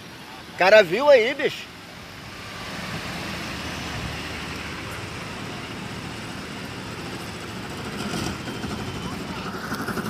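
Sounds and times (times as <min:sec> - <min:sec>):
engine rumble: 0:00.0 - 0:10.0.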